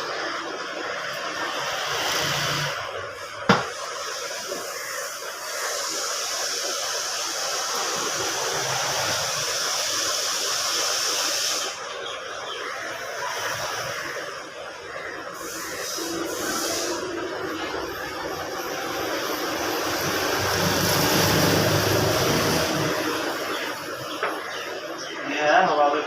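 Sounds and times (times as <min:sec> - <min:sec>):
steady blowing hiss: 0:00.0 - 0:26.0.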